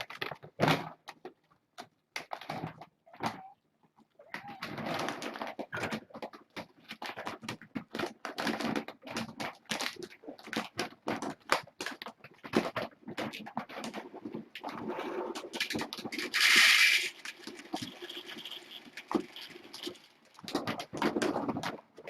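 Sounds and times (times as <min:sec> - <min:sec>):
kittens scratching and scuffling: 0:00.0 - 0:22.0.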